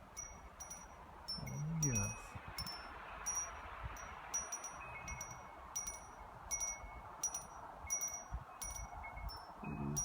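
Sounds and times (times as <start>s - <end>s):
metal wind chimes ringing: 0.0s - 10.0s
wind hiss: 0.0s - 10.0s.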